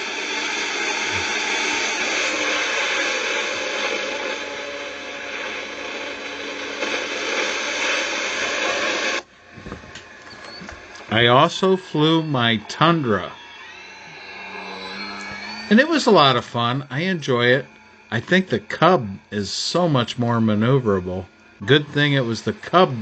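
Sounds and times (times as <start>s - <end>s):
model plane propeller drone: 0.0s - 9.2s, 10.7s - 23.0s.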